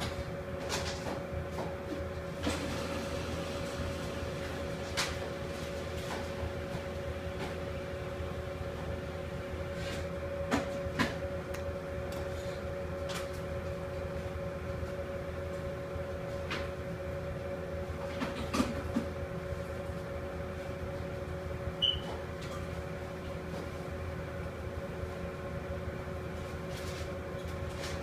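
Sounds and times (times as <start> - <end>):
kitchen equipment humming: 0.0 - 23.5.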